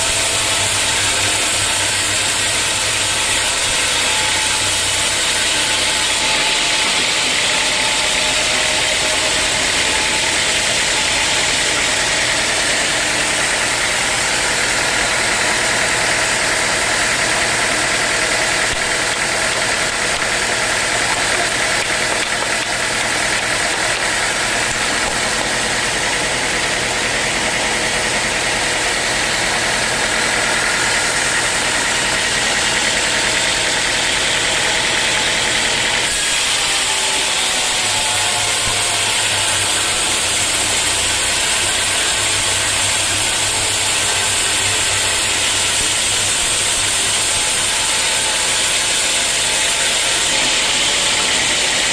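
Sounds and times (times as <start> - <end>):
sawmill machinery running: 0.0 - 51.9.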